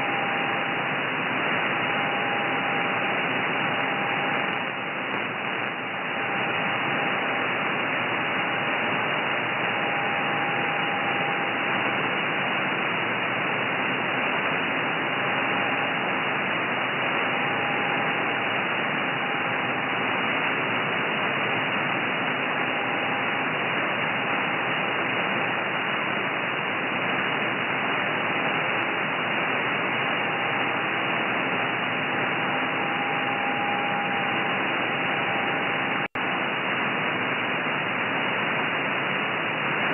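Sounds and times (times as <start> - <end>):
faint steady digital tones: 0.0 - 39.9
radio band noise hiss: 0.0 - 39.9.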